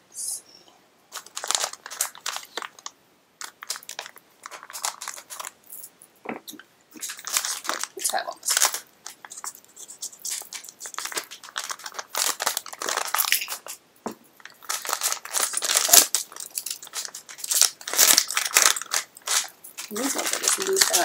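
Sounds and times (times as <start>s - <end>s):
wrapping crinkling and tearing: 1.1s - 5.6s, 7.0s - 13.8s, 14.4s - 21.0s.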